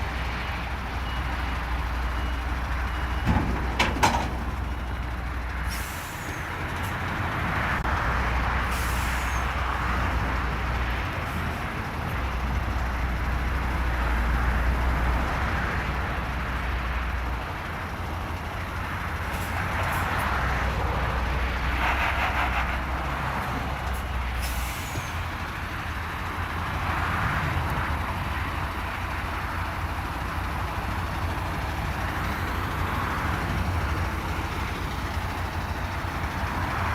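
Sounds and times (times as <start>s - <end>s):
diesel truck engine running: 0.0s - 36.9s.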